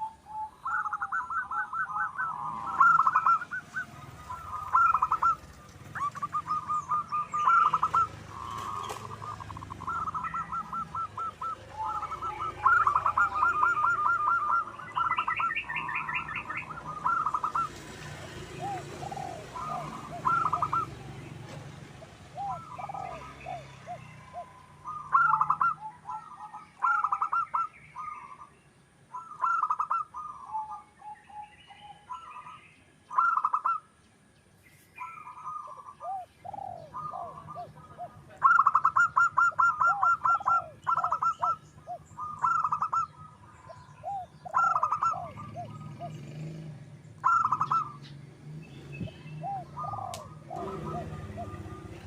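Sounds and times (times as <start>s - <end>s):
dove cooing: 0.0s - 28.5s, 29.1s - 33.8s, 35.0s - 48.2s, 49.1s - 52.0s.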